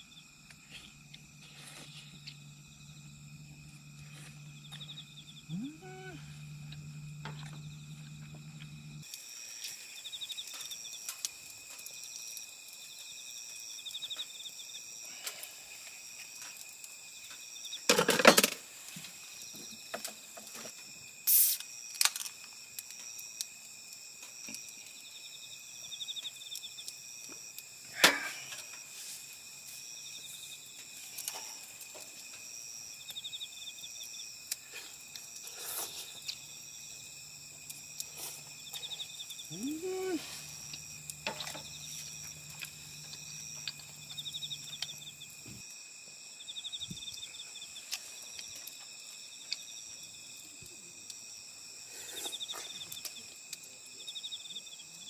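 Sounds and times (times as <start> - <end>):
insects chirping and trilling: 0.0 - 55.0.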